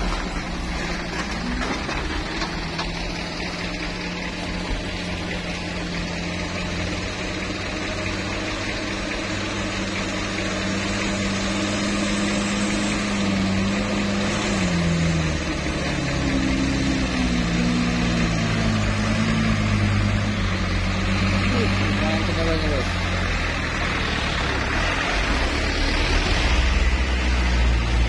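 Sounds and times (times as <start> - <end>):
truck engine labouring uphill: 0.0 - 28.0.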